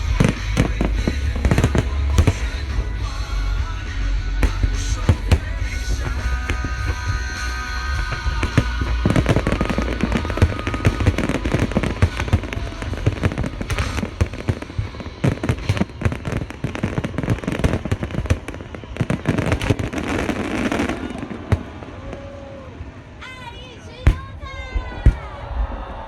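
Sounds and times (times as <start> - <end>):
fireworks popping and banging: 0.0 - 22.7, 24.0 - 25.4
fireworks crackling: 0.0 - 25.4.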